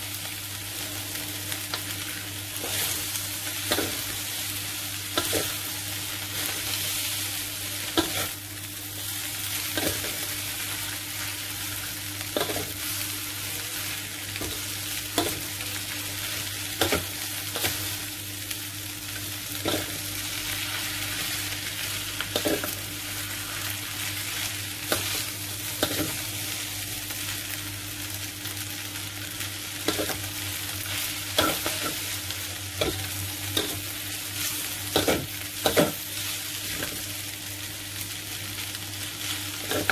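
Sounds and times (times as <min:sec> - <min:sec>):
stir-fry sizzling in wok: 0:00.0 - 0:39.9.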